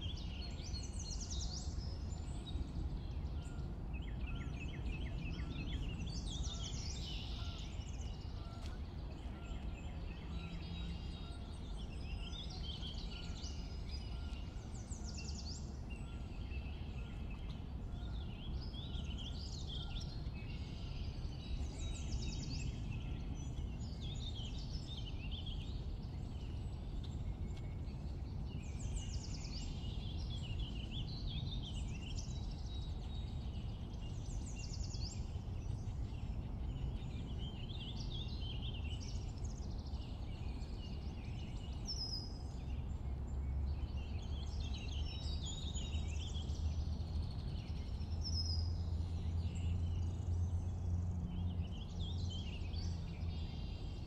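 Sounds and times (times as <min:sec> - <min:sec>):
low background rumble: 0:00.0 - 0:54.0
songbirds singing: 0:00.0 - 0:54.0.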